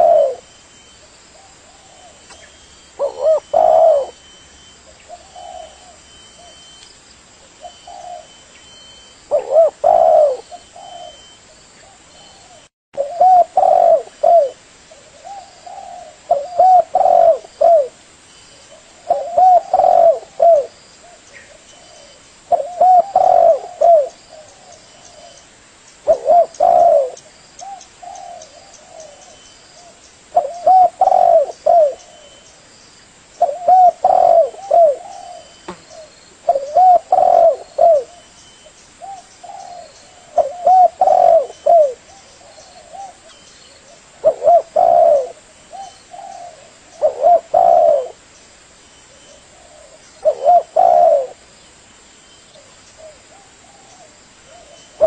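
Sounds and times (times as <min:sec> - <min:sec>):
doves cooing: 0:00.0 - 0:00.6, 0:01.4 - 0:06.7, 0:07.5 - 0:18.0, 0:18.7 - 0:25.4, 0:26.0 - 0:32.5, 0:33.4 - 0:38.3, 0:39.0 - 0:48.2, 0:49.1 - 0:51.4.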